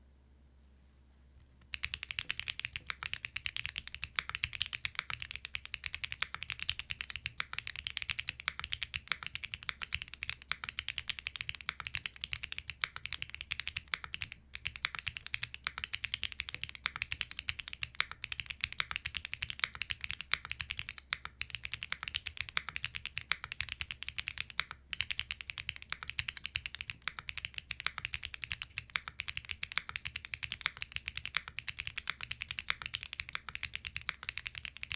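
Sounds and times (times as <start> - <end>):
mechanical keyboard typing: 1.7 - 34.9.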